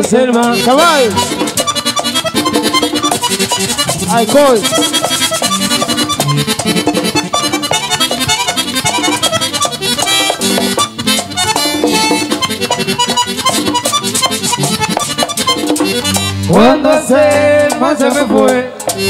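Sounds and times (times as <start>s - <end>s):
button accordion melody: 0.0s - 19.0s
drum and scraper percussion: 0.0s - 19.0s
electric bass: 0.0s - 19.0s.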